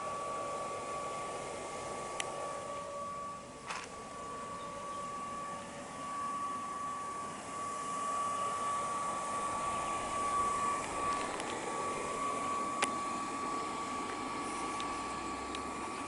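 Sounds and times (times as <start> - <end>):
electric air blower running: 0.0 - 16.0.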